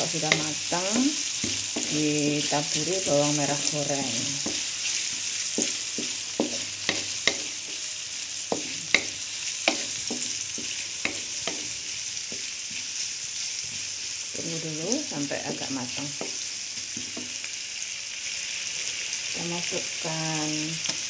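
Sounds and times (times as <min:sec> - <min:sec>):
onion sizzling in hot oil: 0:00.0 - 0:21.0.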